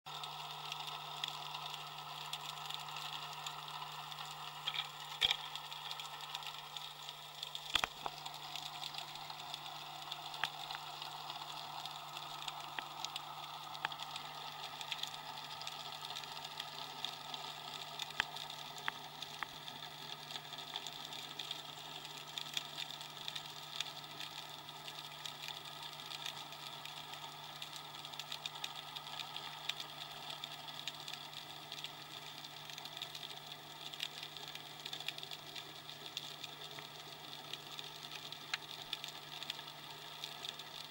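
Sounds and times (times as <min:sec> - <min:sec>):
steady low hum: 0:00.1 - 0:32.9
faint crackle: 0:00.1 - 0:40.9
sharp clicks underwater: 0:00.1 - 0:40.9.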